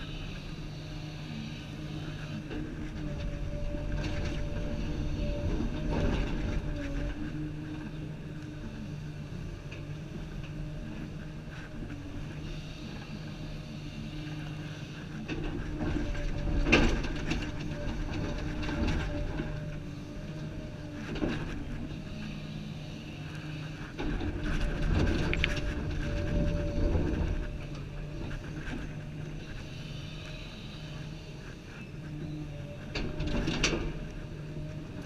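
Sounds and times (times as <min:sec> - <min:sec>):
excavator engine and hydraulics: 0:00.0 - 0:35.0.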